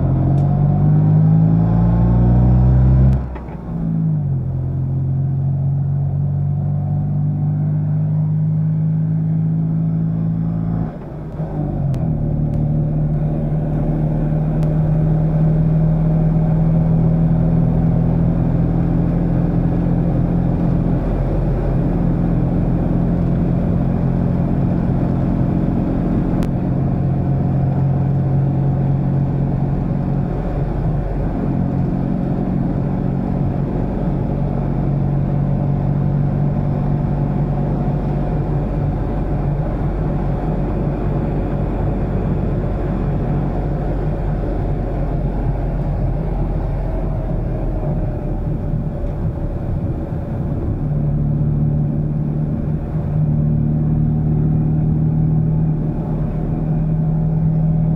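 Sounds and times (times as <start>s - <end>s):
car engine running: 0.0s - 57.9s
road noise: 0.0s - 57.9s.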